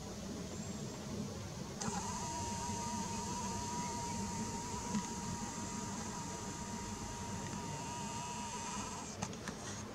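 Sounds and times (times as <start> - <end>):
outdoor background hiss: 0.0 - 9.9
camera lens motor whining: 1.8 - 9.9.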